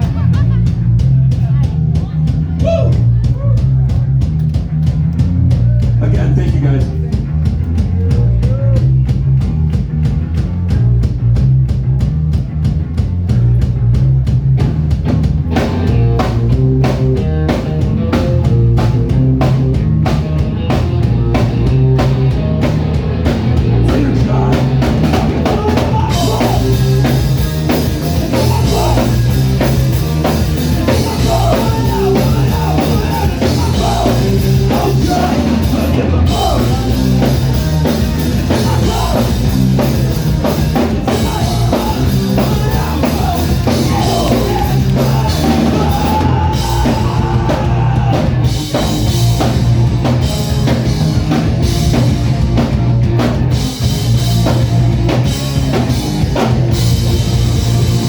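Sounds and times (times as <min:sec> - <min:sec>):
rock music with drums: 0:00.0 - 0:58.0.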